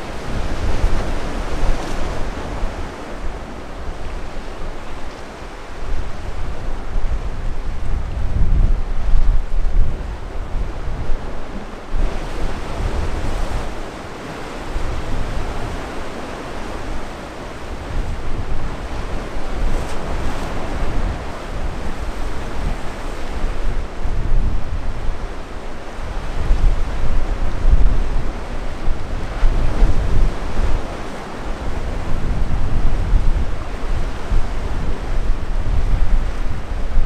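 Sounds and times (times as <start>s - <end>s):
waves washing: 0.0s - 37.0s
wind gusting on microphone: 0.0s - 37.0s.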